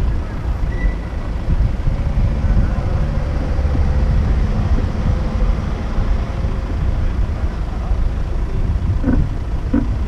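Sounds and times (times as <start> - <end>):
city road traffic rumble: 0.0 - 10.0.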